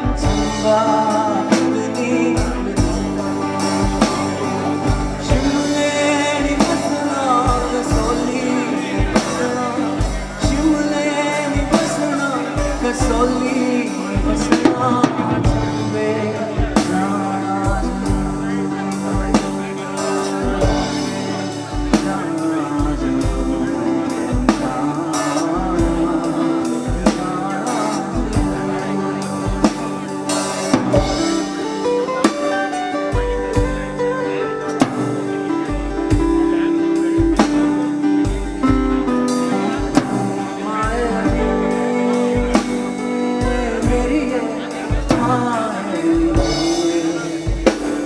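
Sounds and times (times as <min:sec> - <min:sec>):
drum kit steady beat: 0:00.0 - 0:48.0
man singing: 0:00.0 - 0:48.0
strummed acoustic-electric guitar: 0:00.0 - 0:48.0.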